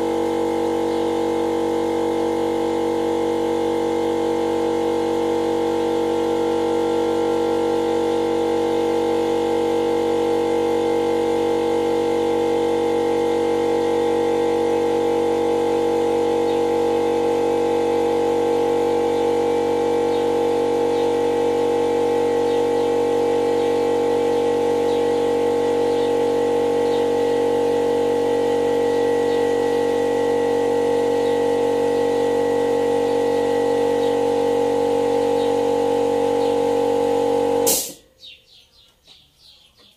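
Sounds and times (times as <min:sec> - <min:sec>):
air compressor humming: 0:00.0 - 0:38.1.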